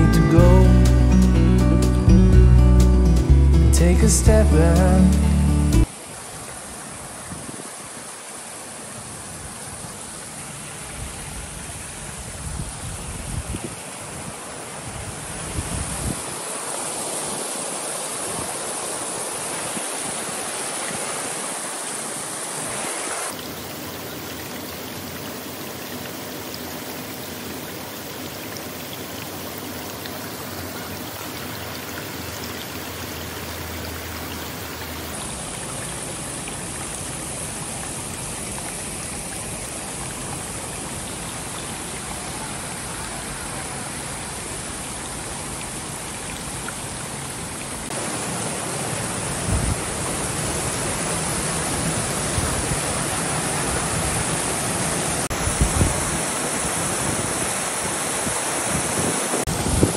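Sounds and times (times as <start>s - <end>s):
water splashing over boulders: 5.8s - 59.9s.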